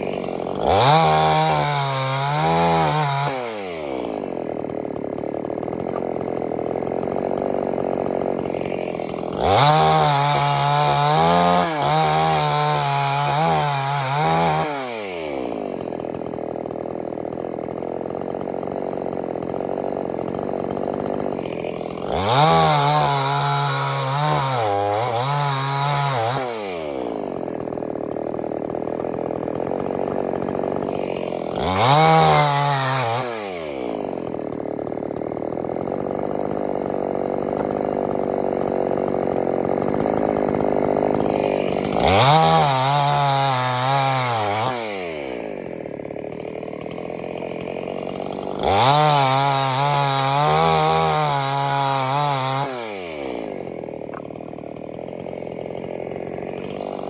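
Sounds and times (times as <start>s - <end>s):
chainsaw idling and revving: 0.0s - 57.0s.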